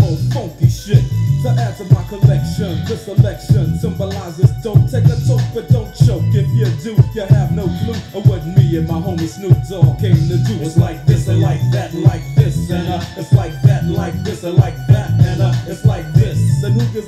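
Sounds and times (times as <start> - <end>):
rapping over a bass beat: 0.0 - 17.0.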